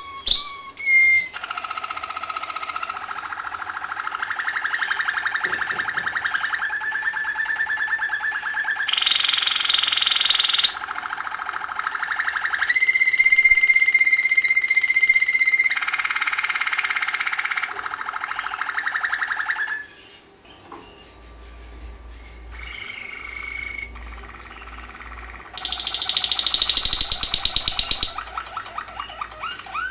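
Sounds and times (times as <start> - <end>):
canary singing trills: 0.0 - 29.9.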